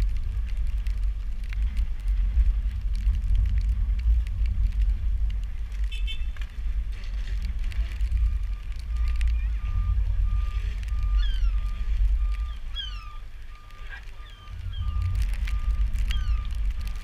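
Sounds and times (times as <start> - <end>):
rain ticks: 0.0 - 17.0
wind buffeting microphone: 0.0 - 17.0.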